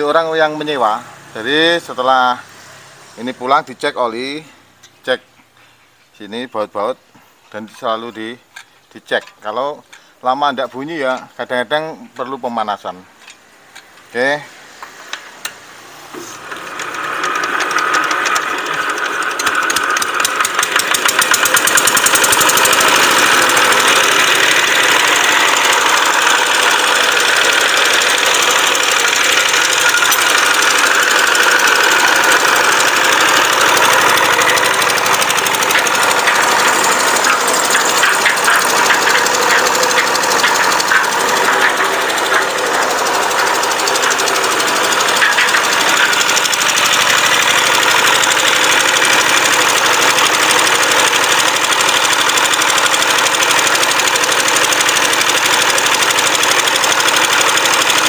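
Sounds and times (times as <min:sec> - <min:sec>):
diesel engine starting and running: 0:00.0 - 0:05.2, 0:07.6 - 0:58.0.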